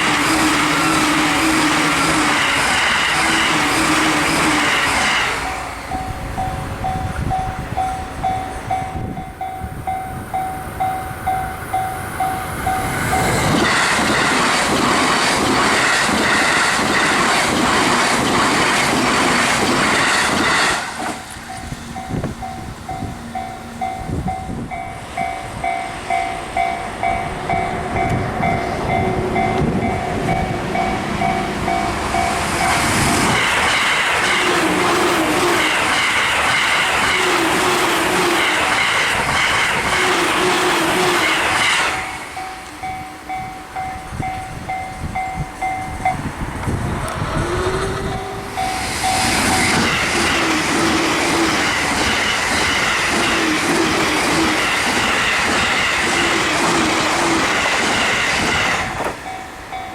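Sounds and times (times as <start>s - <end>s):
level-crossing alarm bell ringing: 0.0s - 14.3s, 19.8s - 46.4s, 48.0s - 59.9s
train rushing past: 0.0s - 59.9s
wheel and rail noise: 0.0s - 59.9s.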